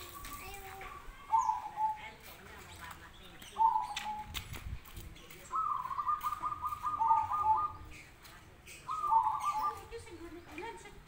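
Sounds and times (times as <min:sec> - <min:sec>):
doves cooing: 0:00.0 - 0:04.4, 0:05.5 - 0:11.0.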